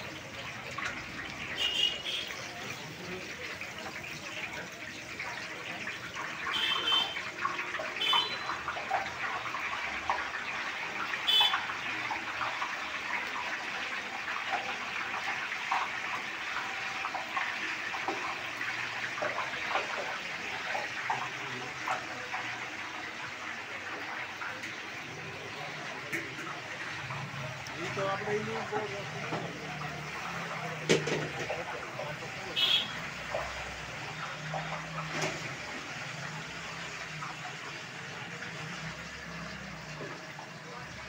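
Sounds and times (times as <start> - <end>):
hot oil sizzling in a wok: 0.0 - 41.0.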